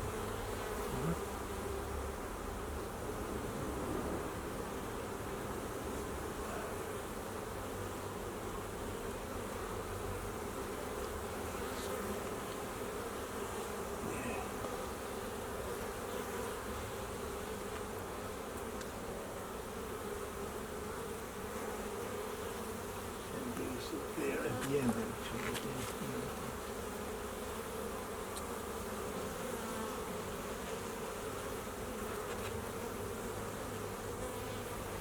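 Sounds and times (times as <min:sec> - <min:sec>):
bees buzzing: 0:00.0 - 0:35.0.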